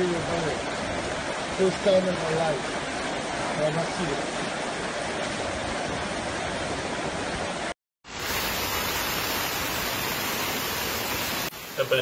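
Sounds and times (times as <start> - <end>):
rain: 0.0 - 12.0
rushing floodwater: 0.0 - 12.0.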